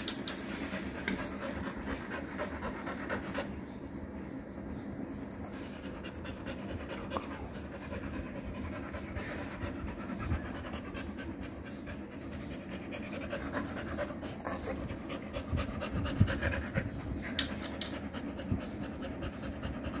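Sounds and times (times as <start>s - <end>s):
dog panting: 0.5s - 3.6s, 5.5s - 20.0s.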